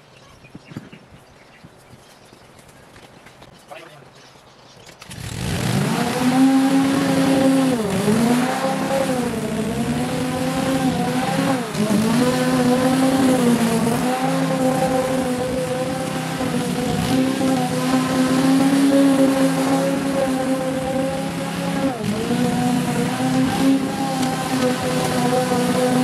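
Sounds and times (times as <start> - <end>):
small engine whining at high revs: 5.0 - 26.0.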